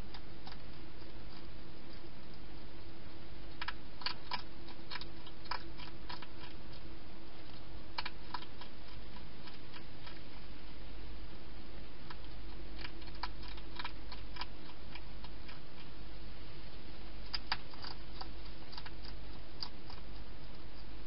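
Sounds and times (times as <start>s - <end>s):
hedgehog crunching food: 0.0s - 10.6s, 11.7s - 16.0s, 17.0s - 21.0s
low hum and hiss: 0.0s - 21.0s.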